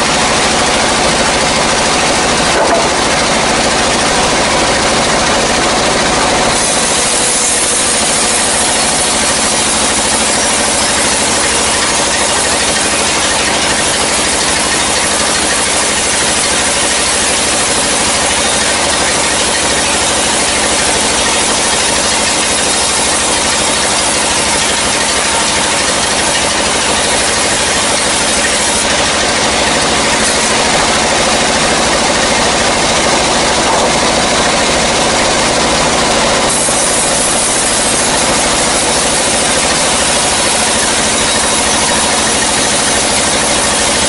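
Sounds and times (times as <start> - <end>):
log saw grinding whine: 0.0 - 44.0.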